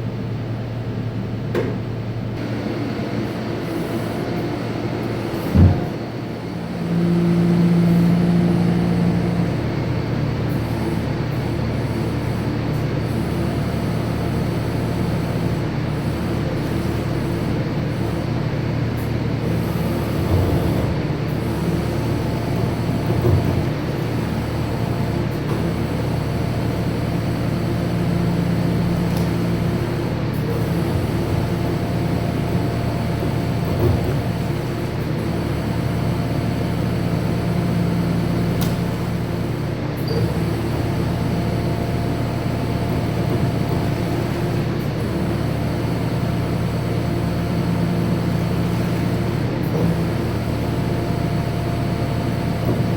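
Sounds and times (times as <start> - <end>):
diesel engine running: 2.0 - 52.9
loud high engine tone: 2.4 - 52.9.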